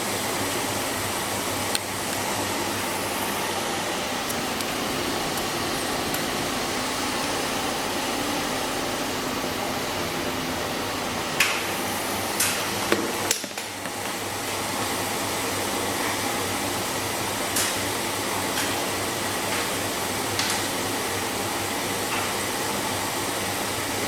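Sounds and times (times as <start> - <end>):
washing machine running: 0.0 - 24.0.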